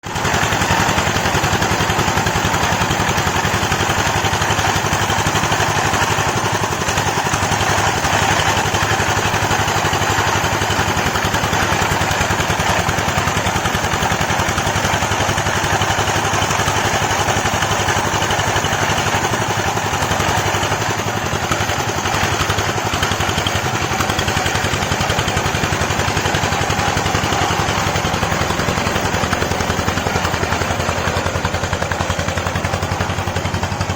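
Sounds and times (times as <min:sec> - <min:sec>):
rice milling machine running: 0:00.0 - 0:33.9.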